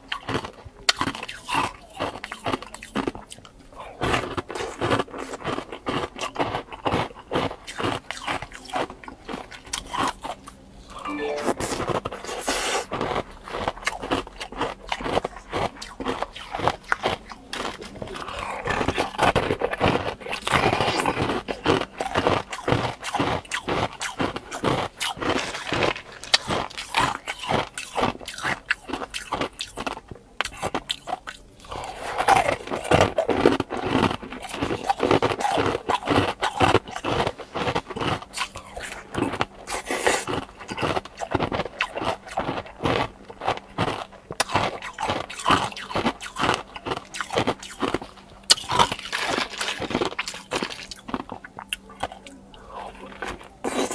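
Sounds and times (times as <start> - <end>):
crunching ice cubes: 0.2 - 3.2, 4.0 - 10.4, 12.9 - 53.9.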